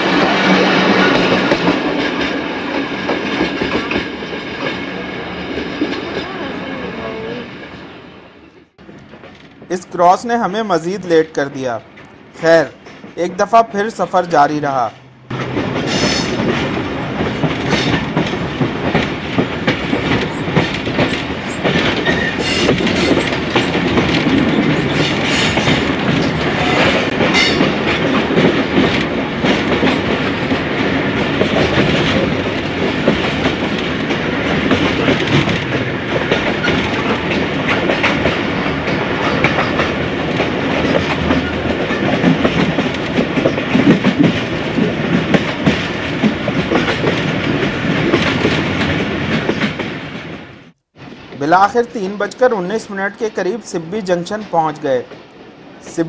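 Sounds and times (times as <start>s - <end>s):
wheels clacking over rail joints: 0.0s - 8.0s, 8.7s - 53.1s
train rolling noise: 0.0s - 56.0s.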